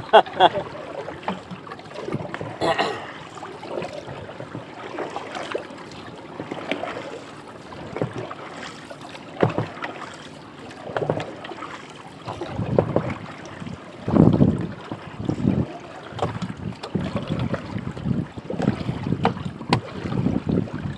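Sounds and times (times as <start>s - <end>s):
paddle splashing in water: 0.0s - 20.9s
water lapping: 0.0s - 20.9s.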